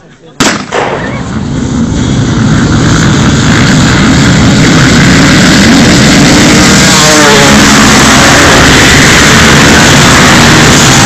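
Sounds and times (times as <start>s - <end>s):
motorcycle engines revving: 1.2s - 11.0s
single engine rising rev: 1.4s - 11.0s.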